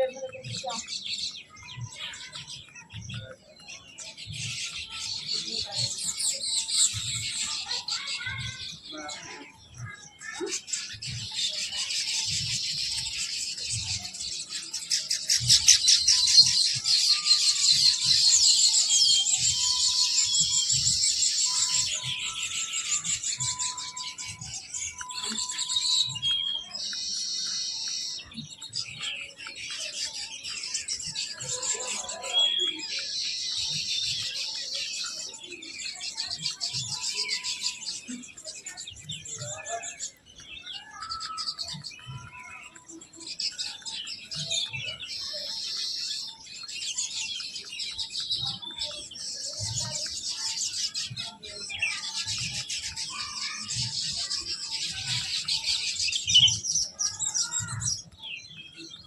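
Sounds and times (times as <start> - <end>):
flock of small birds chirping: 0.0 - 59.0.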